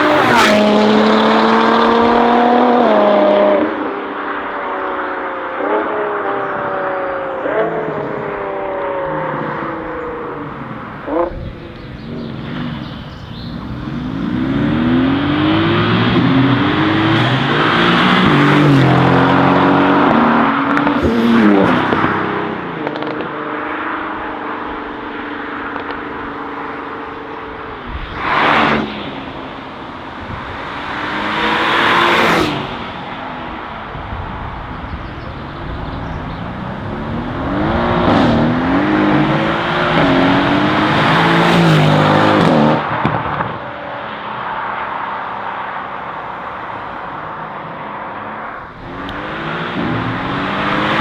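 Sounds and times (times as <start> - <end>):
sports car engine revving: 0.0 - 4.4, 7.2 - 33.7, 36.0 - 43.6, 46.2 - 51.0
cars rushing past: 0.0 - 51.0.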